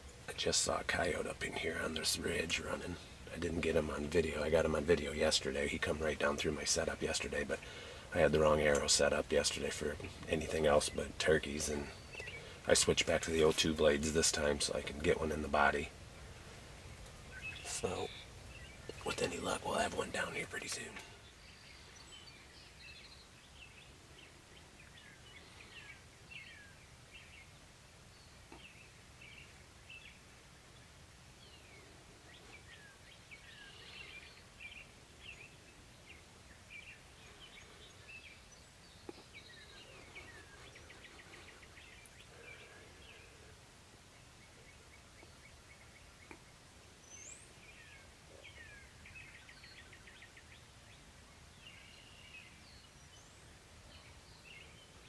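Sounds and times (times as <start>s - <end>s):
low steady outdoor rumble: 0.0s - 55.0s
small birds chirping: 0.0s - 55.0s.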